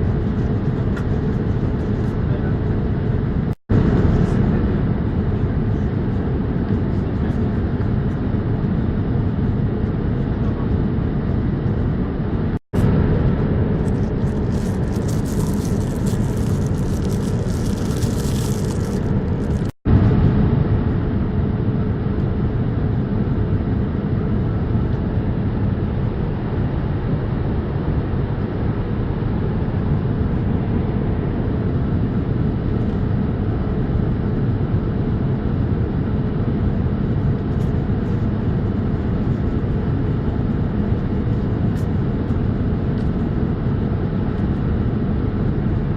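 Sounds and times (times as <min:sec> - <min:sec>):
airliner cabin engine and airflow noise: 0:00.0 - 0:45.9.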